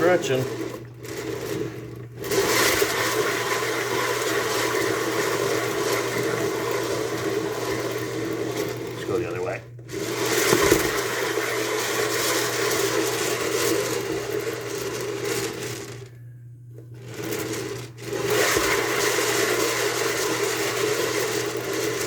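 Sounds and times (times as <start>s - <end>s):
turntable bearing whirring: 0.0s - 22.0s.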